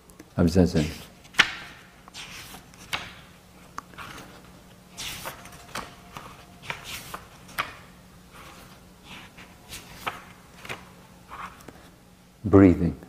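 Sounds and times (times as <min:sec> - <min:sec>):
faint steady hum: 0:00.0 - 0:13.0
book pages rustling: 0:00.8 - 0:12.0.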